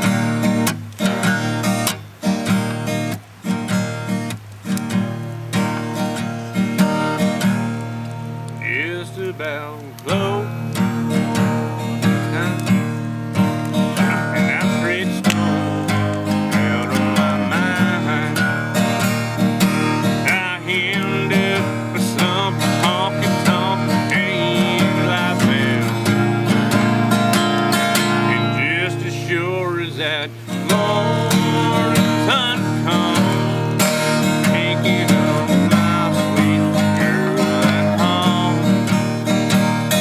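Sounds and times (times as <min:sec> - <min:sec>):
strummed acoustic guitar: 0:00.0 - 0:40.0
higher wavering melodic lines: 0:04.9 - 0:39.8.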